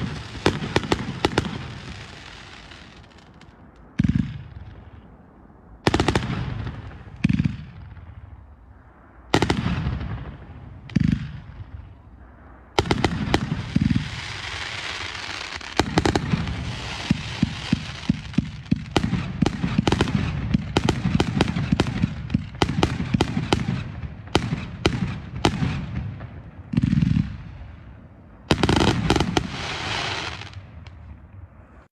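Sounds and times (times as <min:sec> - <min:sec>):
rapid crackling firework bangs: 0:00.0 - 0:04.7, 0:05.9 - 0:08.2, 0:09.3 - 0:11.9, 0:12.8 - 0:27.7, 0:28.5 - 0:31.0
firework booms: 0:00.0 - 0:05.0, 0:09.2 - 0:31.4.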